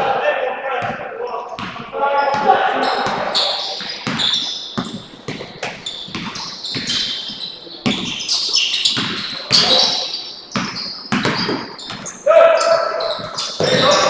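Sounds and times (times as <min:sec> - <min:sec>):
sneakers squeaking on court: 0:00.0 - 0:14.0
basketball bouncing on wooden floor: 0:00.8 - 0:01.0, 0:01.6 - 0:14.0.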